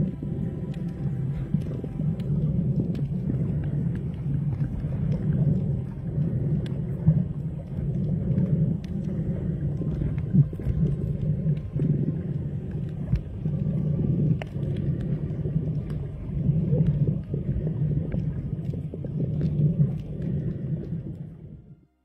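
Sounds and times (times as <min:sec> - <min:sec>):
sharp underwater clicks: 0:00.0 - 0:21.4
muffled underwater rumble: 0:00.0 - 0:22.0.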